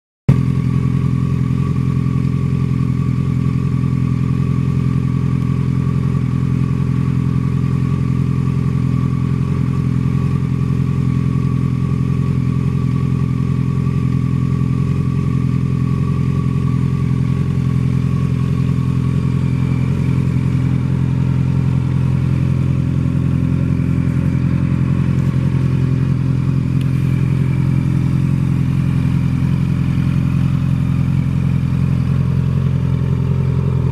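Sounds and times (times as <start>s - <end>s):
motorcycle engine idling: 0.3s - 33.9s.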